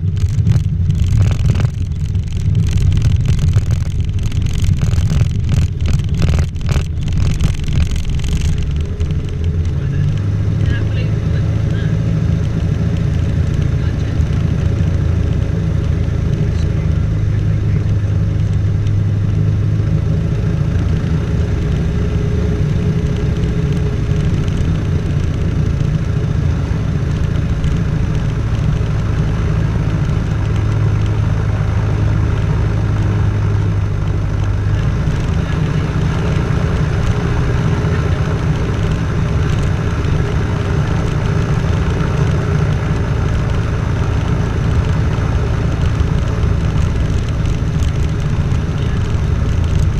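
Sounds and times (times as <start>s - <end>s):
aircraft engine and propeller: 0.0s - 49.9s.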